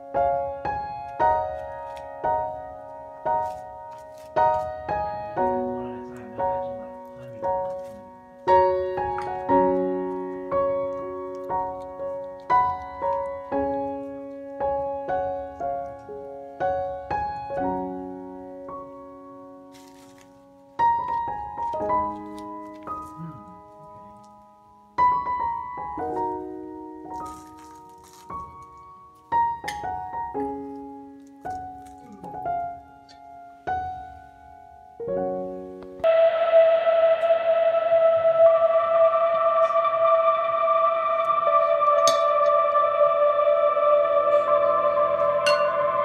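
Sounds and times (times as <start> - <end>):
slow gentle piano music: 0.0 - 46.0.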